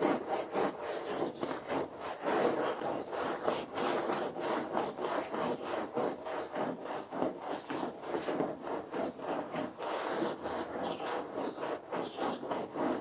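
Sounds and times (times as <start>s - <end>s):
scrub brush scrubbing carpet: 0.0s - 13.0s.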